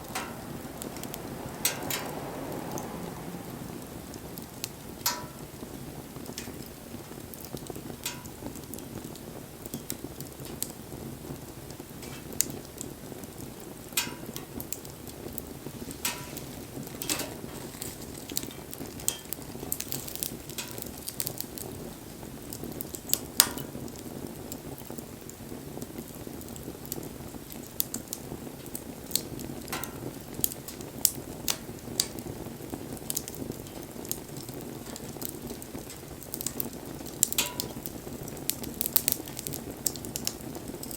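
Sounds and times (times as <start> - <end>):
campfire flame rushing: 0.0 - 40.9
fire crackling and popping: 0.0 - 40.9.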